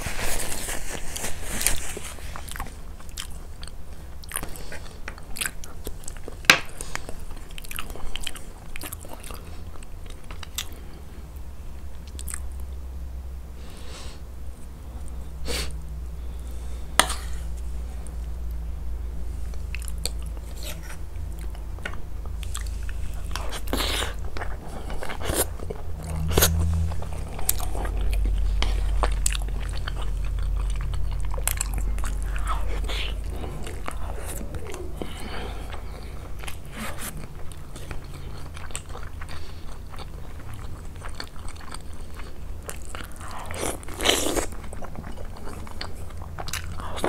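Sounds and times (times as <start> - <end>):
person chewing food: 0.0 - 12.8, 14.6 - 18.7, 19.3 - 47.0.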